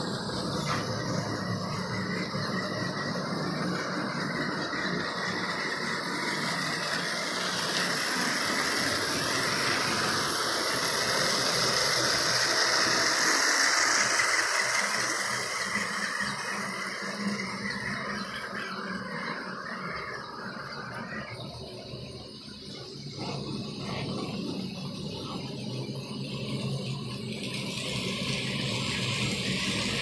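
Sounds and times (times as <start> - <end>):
model train motor whine: 0.0 - 30.0
wheels rattling on rails: 0.0 - 30.0.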